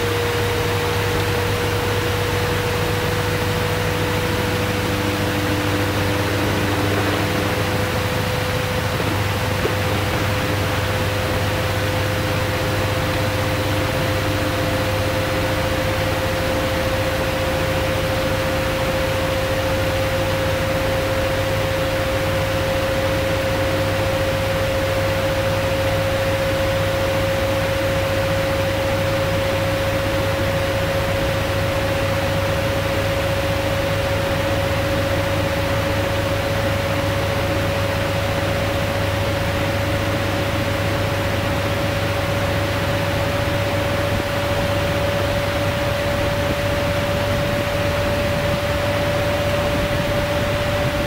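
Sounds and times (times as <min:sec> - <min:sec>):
washing machine spinning: 0:00.0 - 0:51.0.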